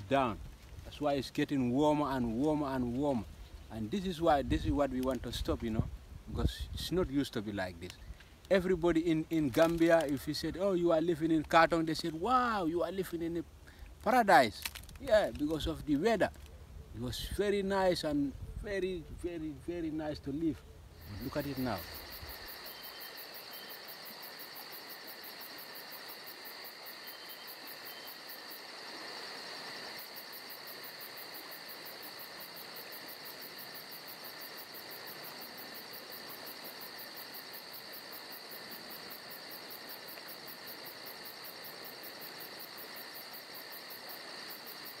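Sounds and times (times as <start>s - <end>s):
insects chirring: 0.0s - 45.0s.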